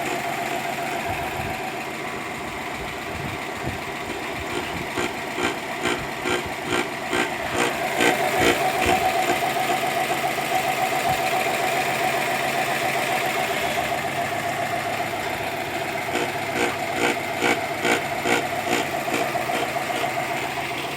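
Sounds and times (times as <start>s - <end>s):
engine hum: 0.0s - 20.9s
rhythmic knocking from engine mount: 0.0s - 20.9s.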